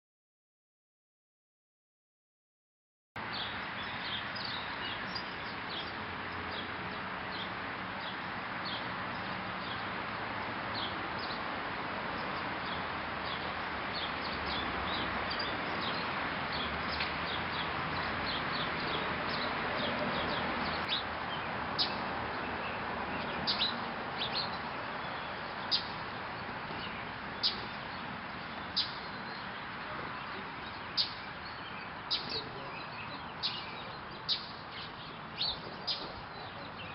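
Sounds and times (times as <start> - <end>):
small birds chirping: 3.2 - 36.9.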